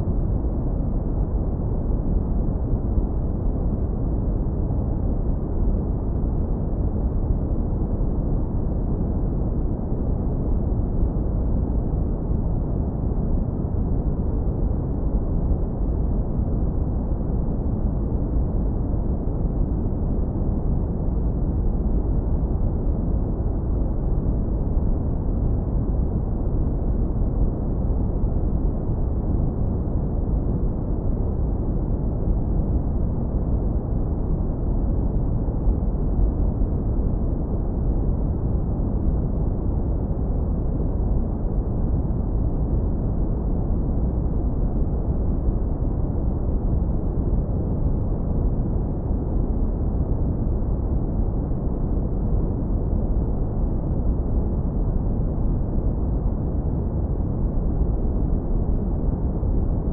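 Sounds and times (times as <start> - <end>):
deep brown noise rumble: 0.0 - 59.9.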